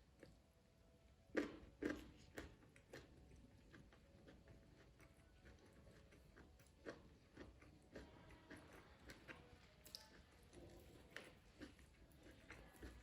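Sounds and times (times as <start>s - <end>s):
faint chewing of food: 0.0s - 13.0s.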